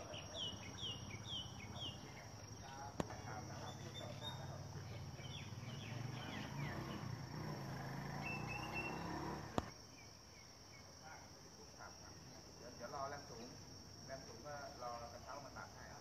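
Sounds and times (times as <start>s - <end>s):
faint insect chirps: 0.0s - 16.0s
high insect drone: 0.0s - 16.0s.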